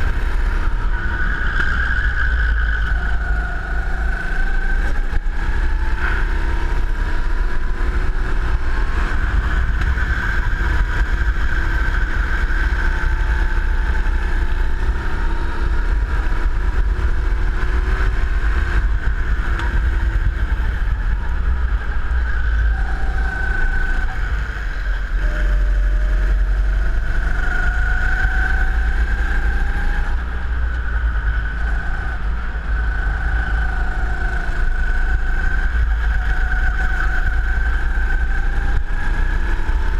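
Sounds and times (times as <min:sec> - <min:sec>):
go-kart engine running: 0:00.0 - 0:39.9
wind rumble on microphone: 0:00.0 - 0:39.9.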